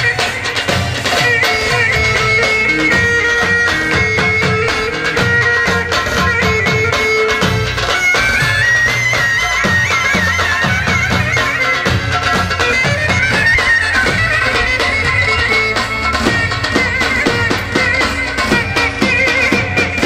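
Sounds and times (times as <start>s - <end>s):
reedy wind melody: 0.0s - 20.0s
steady drum beat: 0.0s - 20.0s.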